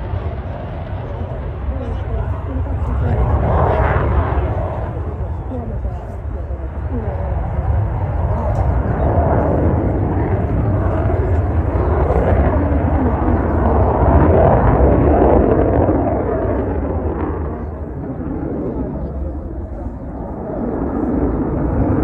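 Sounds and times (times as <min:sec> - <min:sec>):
jet engine rushing overhead: 0:00.0 - 0:22.0.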